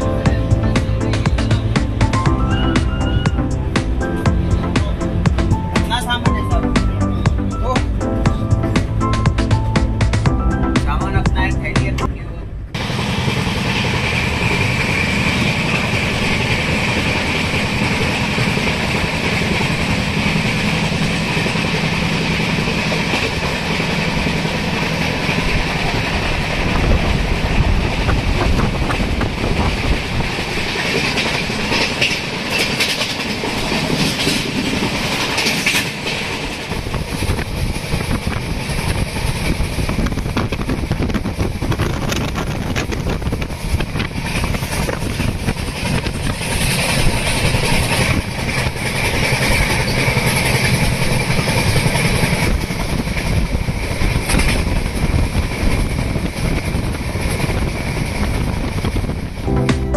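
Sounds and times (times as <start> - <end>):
train wheels rumbling on rails: 0.0 - 59.8
clickety-clack over rail joints: 10.8 - 59.4.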